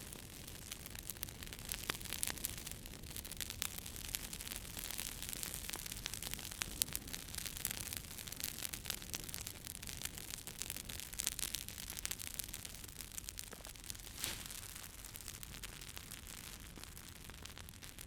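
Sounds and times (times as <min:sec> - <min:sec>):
burning logs crackling and popping: 0:00.0 - 0:18.0
campfire flames hissing: 0:00.0 - 0:18.0.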